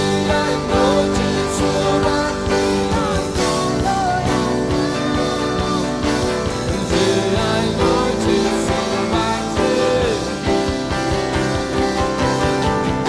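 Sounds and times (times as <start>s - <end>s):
live worship band music: 0.0s - 13.0s
melodic lead line: 0.0s - 13.0s
steady drum beat: 0.0s - 13.0s.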